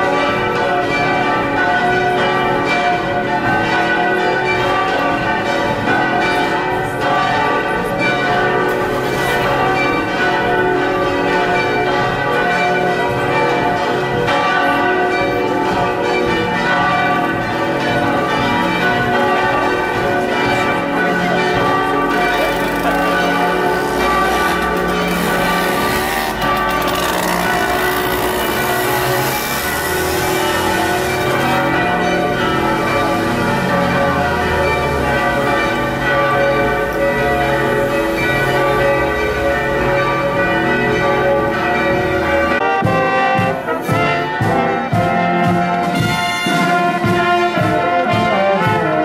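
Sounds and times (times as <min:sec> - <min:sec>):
church bells pealing: 0:00.0 - 0:49.0.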